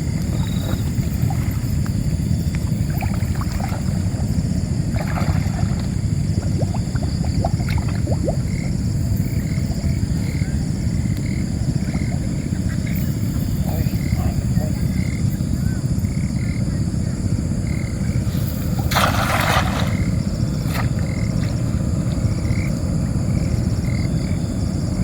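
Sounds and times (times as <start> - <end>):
high insect drone: 0.0 - 25.0
wind buffeting microphone: 0.0 - 25.0.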